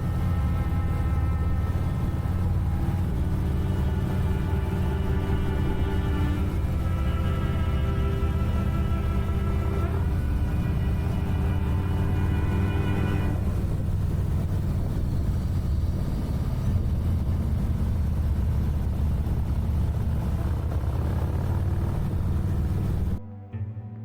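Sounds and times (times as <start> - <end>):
motorcycle engine rumbling: 0.0 - 23.2.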